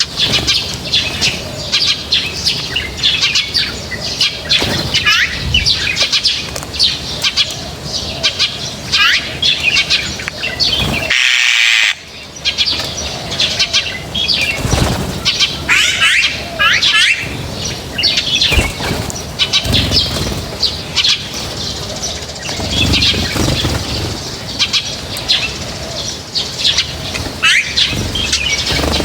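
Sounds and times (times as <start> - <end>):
wings flapping: 0.0 - 7.5, 8.8 - 11.6, 12.5 - 29.0
flock of small birds chirping: 0.0 - 29.0.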